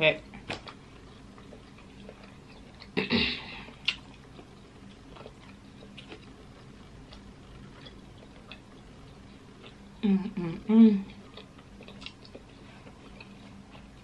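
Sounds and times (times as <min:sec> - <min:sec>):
quiet chewing: 0:00.4 - 0:14.0.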